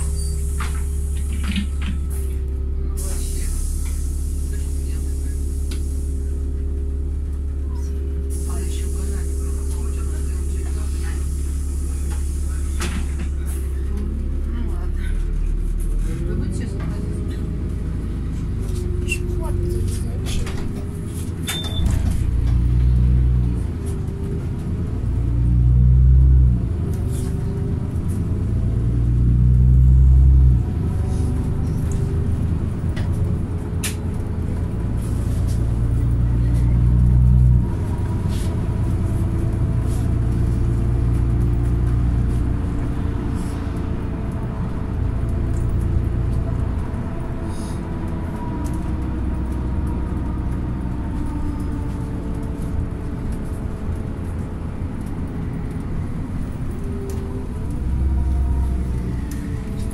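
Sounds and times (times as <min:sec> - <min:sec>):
bus engine and road noise: 0:00.0 - 0:59.9.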